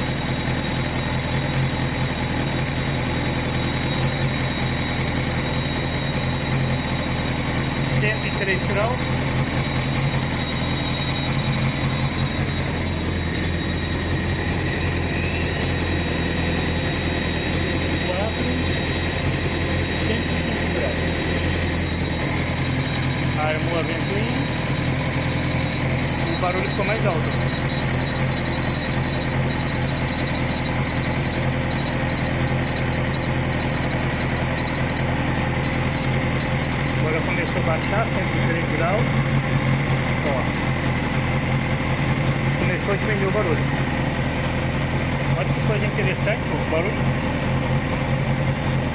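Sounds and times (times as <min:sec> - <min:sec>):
high-pitched water pump whistle: 0:00.0 - 0:48.9
motorcycle engine idling: 0:00.0 - 0:48.9
radiator fan running: 0:00.0 - 0:48.9.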